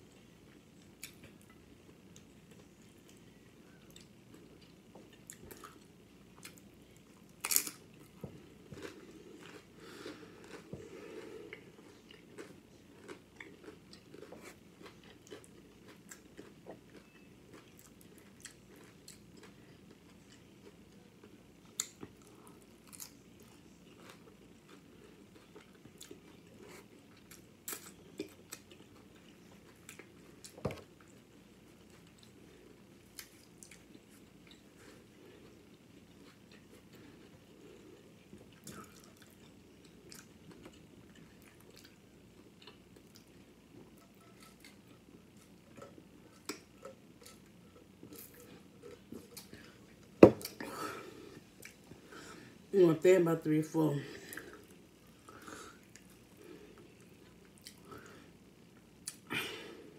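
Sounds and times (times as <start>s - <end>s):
chewing and crunching chips: 0.1s - 52.4s, 54.2s - 59.3s.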